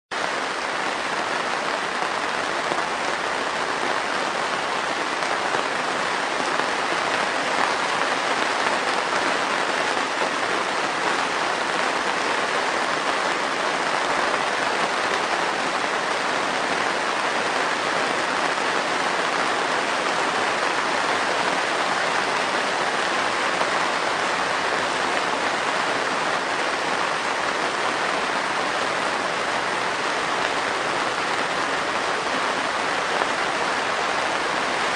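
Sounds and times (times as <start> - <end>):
heavy rain on a greenhouse roof: 0.1 - 34.9.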